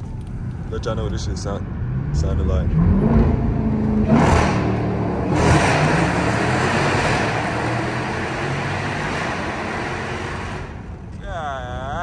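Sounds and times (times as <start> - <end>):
car engine accelerating hard: 0.8 - 10.9.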